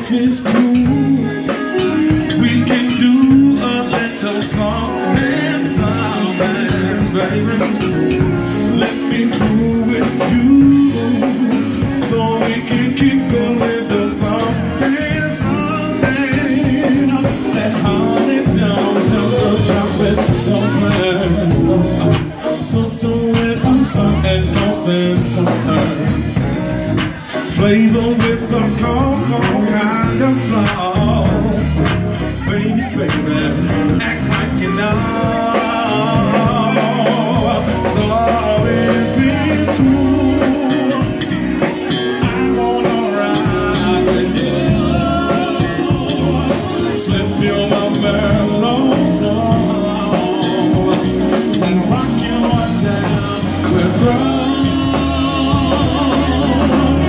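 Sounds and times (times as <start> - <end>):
drum kit: 0.0 - 57.0
electric bass: 0.0 - 57.0
keyboard: 0.0 - 57.0
man singing: 0.0 - 57.0.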